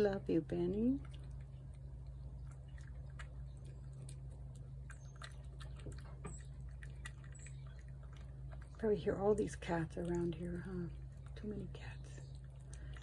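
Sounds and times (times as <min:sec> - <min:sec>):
steady low hum: 0:00.0 - 0:13.0
cat chewing wet food: 0:00.8 - 0:13.0.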